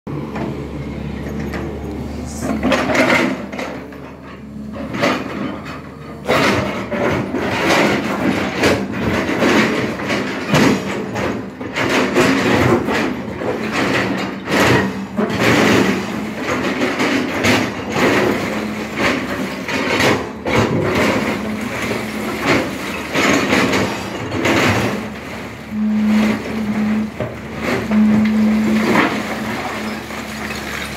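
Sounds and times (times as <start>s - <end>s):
excavator engine humming: 0.1s - 30.9s.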